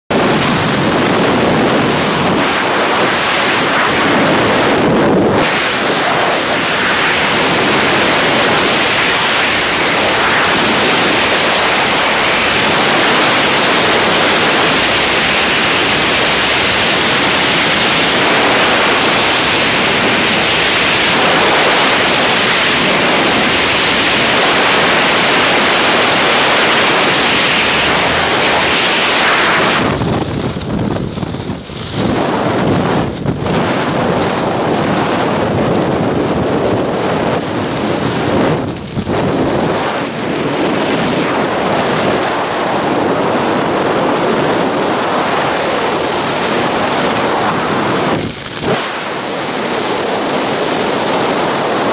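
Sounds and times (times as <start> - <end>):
wind rushing over helmet: 0.1 - 51.9.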